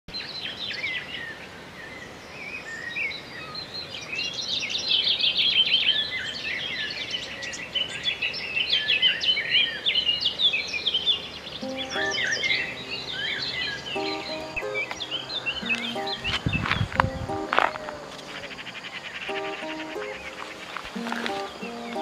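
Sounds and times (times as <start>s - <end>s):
songbirds chirping and twittering: 0.1s - 22.0s.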